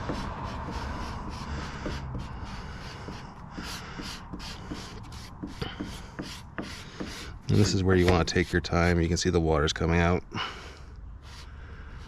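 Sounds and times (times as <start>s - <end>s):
squeegee rubbing wet decal: 0.0s - 9.2s, 11.2s - 12.0s.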